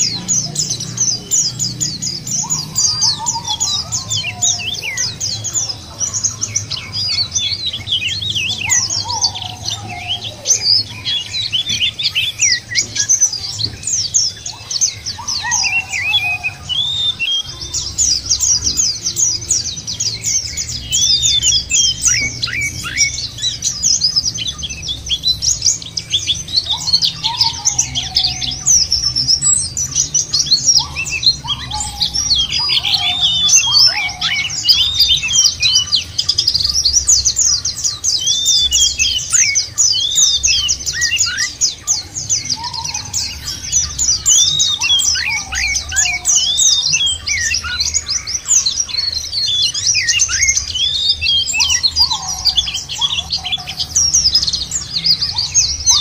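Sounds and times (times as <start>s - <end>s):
birds twittering and trilling: 0.0s - 56.0s.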